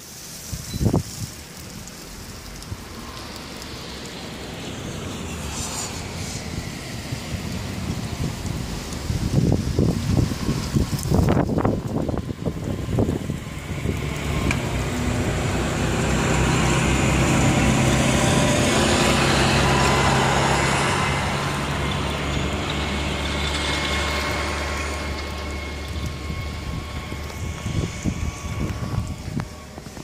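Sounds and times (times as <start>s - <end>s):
vehicle driving past: 2.3s - 30.0s.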